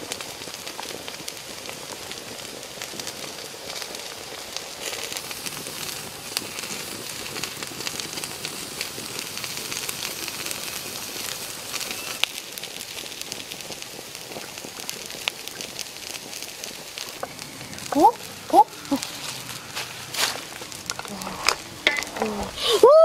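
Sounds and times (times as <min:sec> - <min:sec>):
water boiling in a wok: 0:00.0 - 0:23.0
wood fire crackling: 0:00.0 - 0:23.0.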